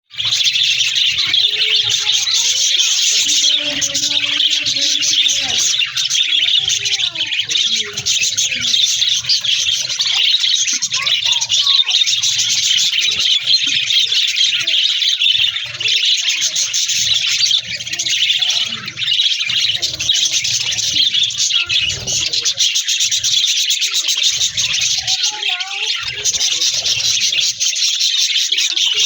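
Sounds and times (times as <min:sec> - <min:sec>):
budgerigars chattering and warbling: 0:00.1 - 0:29.0.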